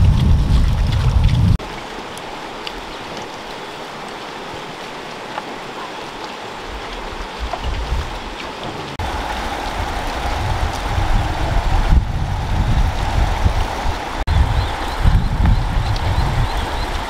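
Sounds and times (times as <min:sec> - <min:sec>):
river water rushing: 0:01.6 - 0:17.0.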